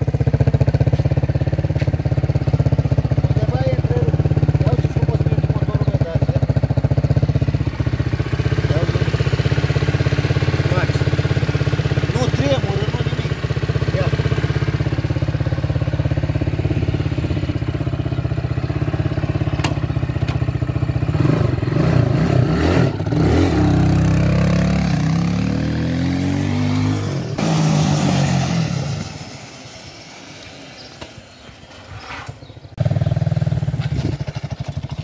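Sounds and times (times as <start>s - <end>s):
quad bike engine revving: 0.0s - 29.5s, 32.4s - 35.0s.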